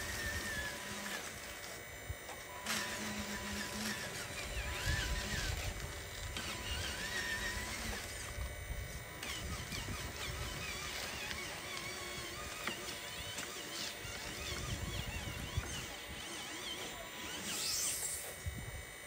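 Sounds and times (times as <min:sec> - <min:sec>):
toy truck motor whirring: 0:00.0 - 0:19.0.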